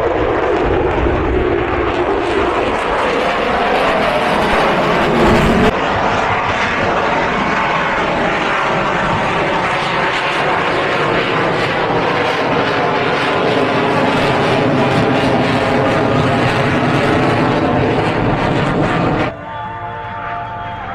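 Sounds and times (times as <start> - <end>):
jet engine roaring: 0.0 - 20.9.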